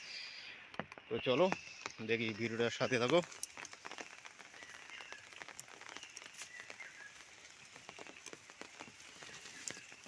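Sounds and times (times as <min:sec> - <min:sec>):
faint bird chirps: 0:00.0 - 0:03.3, 0:04.4 - 0:10.0
light ticks and crackles: 0:00.4 - 0:10.0.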